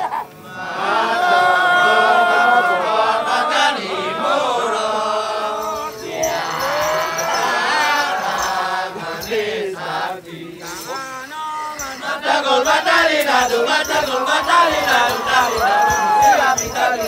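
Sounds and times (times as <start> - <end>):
men chanting in unison: 0.4 - 17.0.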